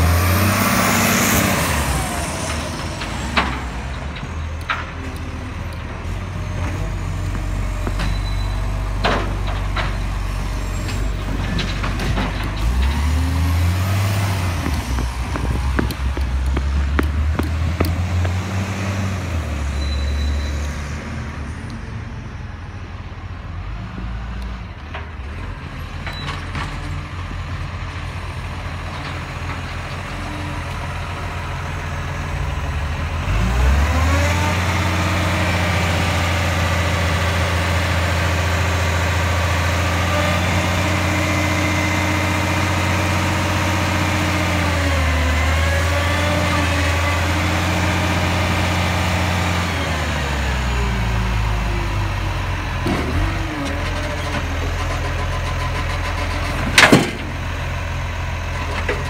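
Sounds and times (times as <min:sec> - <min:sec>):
garbage truck diesel engine revving: 0:00.0 - 0:21.5, 0:27.0 - 0:59.0.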